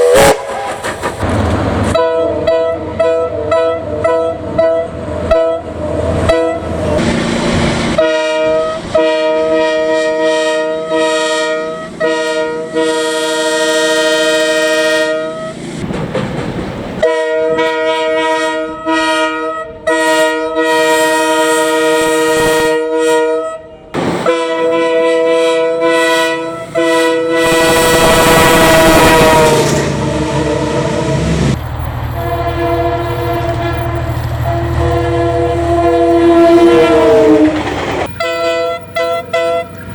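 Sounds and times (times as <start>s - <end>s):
train air horn blasts: 0.0s - 0.8s, 1.9s - 15.6s, 17.0s - 39.9s
passing train rumble: 0.0s - 39.9s.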